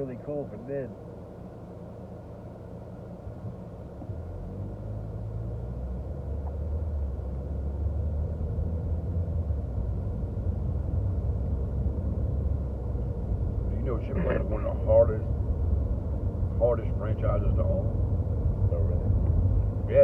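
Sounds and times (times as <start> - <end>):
road and engine rumble in a car: 0.0 - 20.0.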